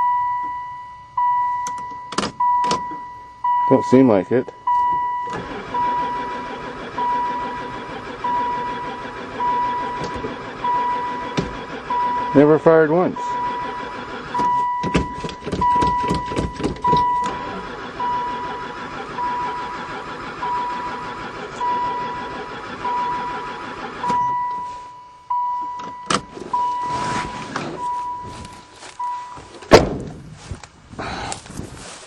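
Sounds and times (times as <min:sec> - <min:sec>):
dashboard warning chime beeping: 0:00.0 - 0:29.5.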